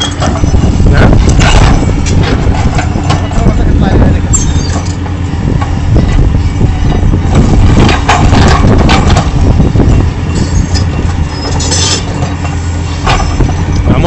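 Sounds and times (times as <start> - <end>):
excavator diesel engine under load: 0.0 - 14.0.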